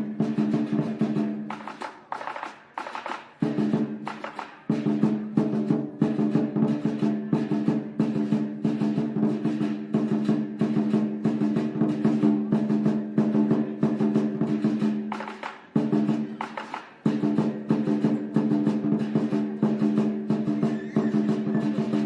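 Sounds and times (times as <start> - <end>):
drums beaten in fast roll: 0.0 - 22.0.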